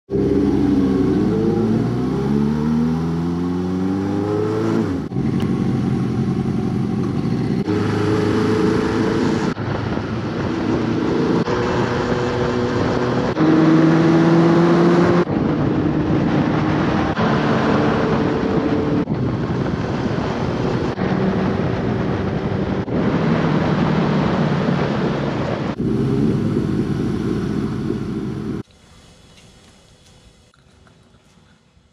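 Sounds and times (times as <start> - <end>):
motorcycle engine accelerating: 0.1 - 28.6
wind and road noise: 0.1 - 31.9.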